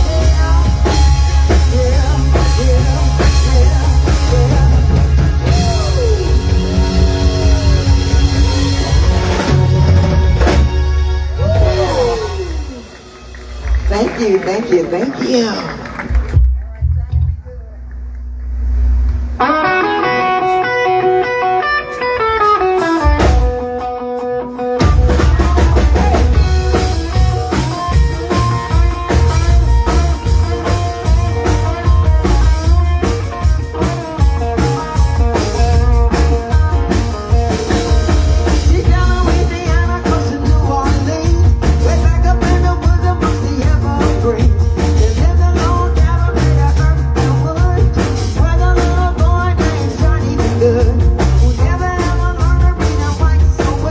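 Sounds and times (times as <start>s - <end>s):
band playing with drums and bass: 0.0s - 17.0s, 19.4s - 53.9s.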